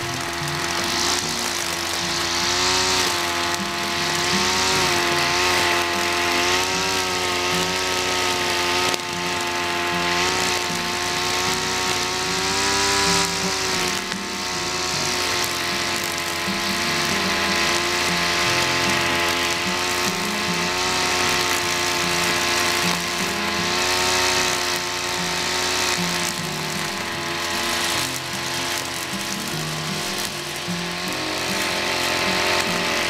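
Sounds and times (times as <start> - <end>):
brush cutter engine running: 0.0 - 33.0.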